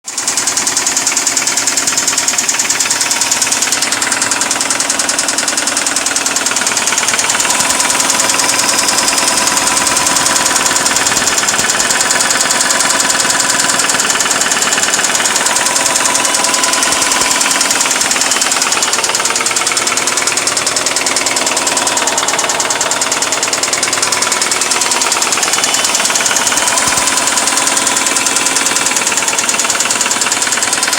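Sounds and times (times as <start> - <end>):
engine idling with tapping knock: 0.0 - 30.9.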